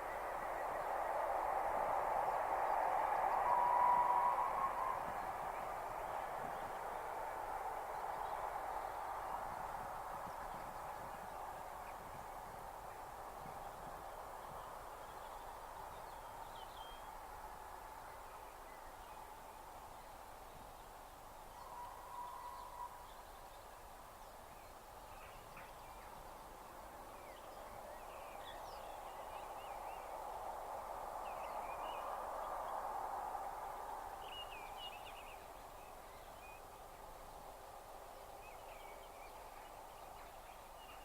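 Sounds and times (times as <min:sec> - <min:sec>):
outdoor background noise: 0:00.0 - 0:41.0.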